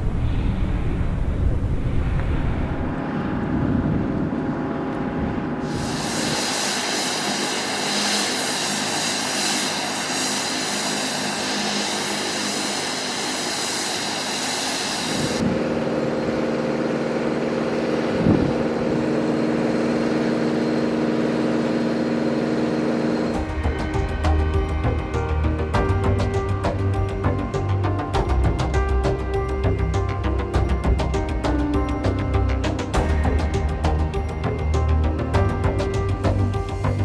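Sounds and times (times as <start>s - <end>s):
aircraft engine hum: 0.0s - 37.0s
loud rushing hiss with high whine: 5.5s - 37.0s.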